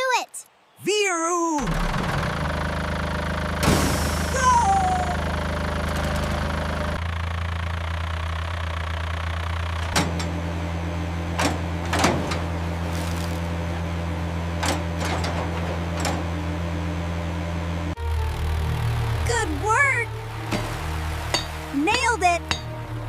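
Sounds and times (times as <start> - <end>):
machine motor humming: 1.6 - 23.0.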